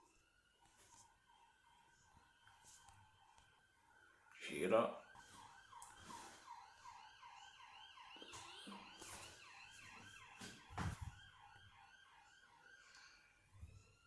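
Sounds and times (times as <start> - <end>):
faint siren yelping: 0.0 - 14.0.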